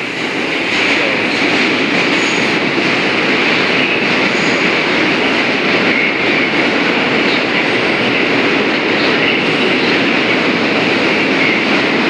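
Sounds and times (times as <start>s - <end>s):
subway train wheels rumbling on rails: 0.0s - 12.0s.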